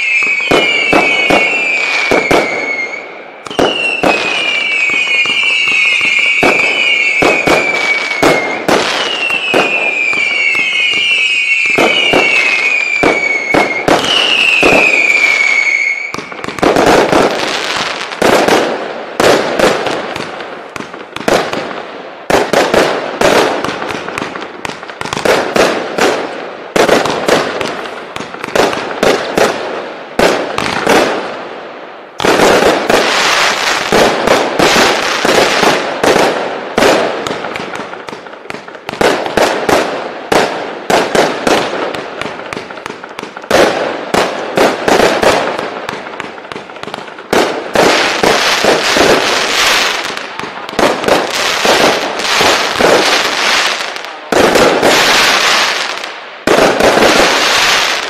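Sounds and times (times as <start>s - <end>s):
firework shots firing rapidly: 0.0s - 2.7s, 3.4s - 15.5s, 16.1s - 31.4s, 32.2s - 58.0s
firework bursts crackling: 0.0s - 58.0s.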